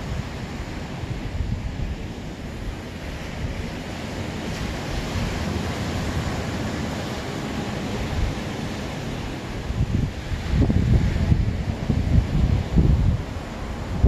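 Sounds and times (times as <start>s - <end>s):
ocean surf hissing: 0.0s - 14.0s
wind rumbling on microphone: 0.0s - 14.0s.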